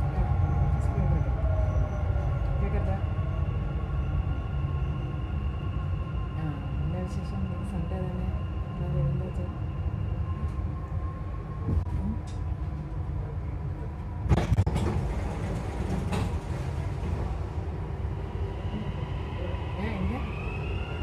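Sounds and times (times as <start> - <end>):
low hum and rumble in train carriage: 0.0 - 21.0.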